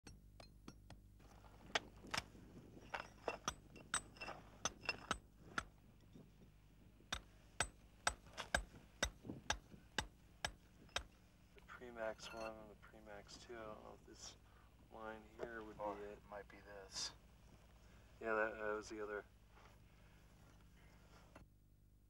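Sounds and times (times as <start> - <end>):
faint low hum: 0.1 - 22.0.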